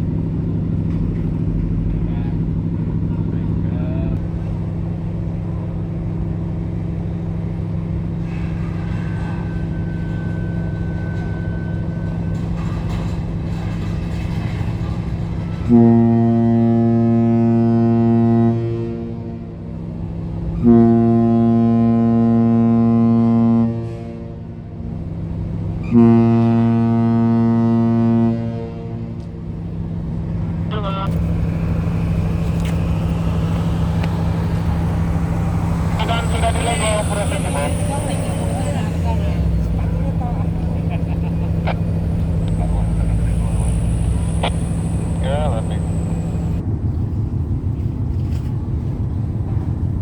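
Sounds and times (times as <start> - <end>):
ship horn blasts: 0.0 - 46.6
low engine drone: 0.0 - 50.0.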